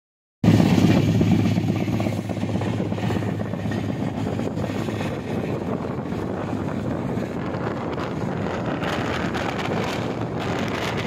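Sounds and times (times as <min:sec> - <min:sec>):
train rumbling at speed: 0:00.4 - 0:11.0.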